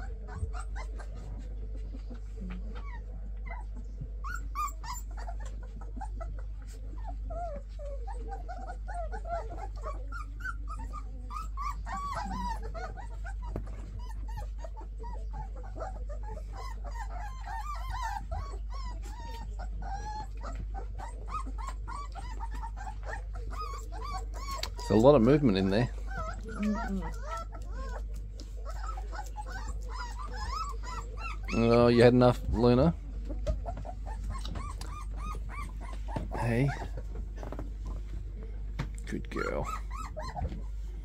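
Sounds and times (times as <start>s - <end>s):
puppies whimpering and squeaking: 0.0s - 41.0s.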